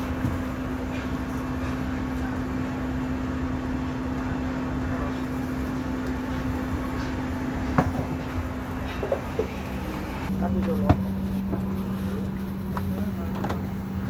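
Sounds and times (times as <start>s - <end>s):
airliner cabin air system hum: 0.0s - 14.0s.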